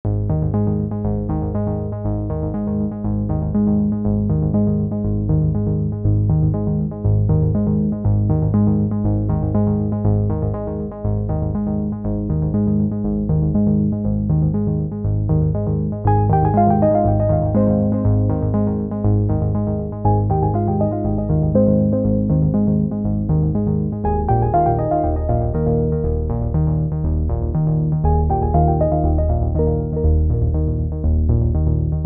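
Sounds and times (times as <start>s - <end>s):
instrumental music with keyboard notes: 0.1s - 32.0s.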